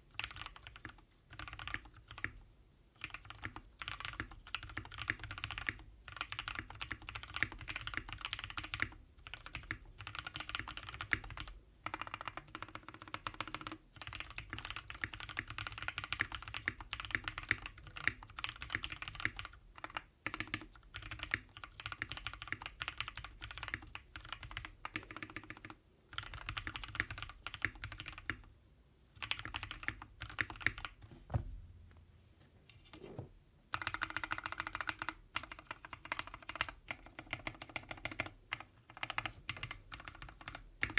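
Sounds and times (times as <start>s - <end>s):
fast mechanical keyboard typing: 0.2s - 2.4s, 3.0s - 28.5s, 29.2s - 31.0s, 33.7s - 40.9s.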